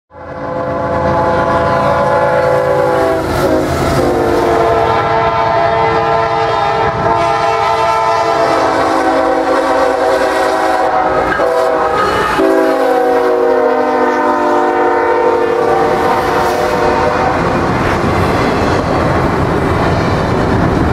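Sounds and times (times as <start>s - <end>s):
locomotive air horn blasts: 0.1s - 17.6s.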